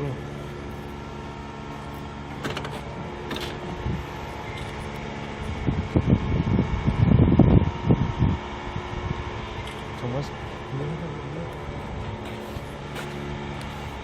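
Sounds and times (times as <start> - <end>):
engine hum: 0.0 - 14.0
low rumbling bursts: 0.0 - 14.0.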